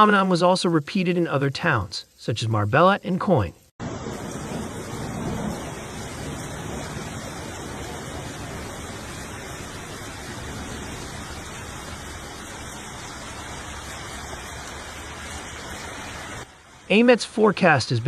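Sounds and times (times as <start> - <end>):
rushing storm water and rain: 0.0 - 18.0.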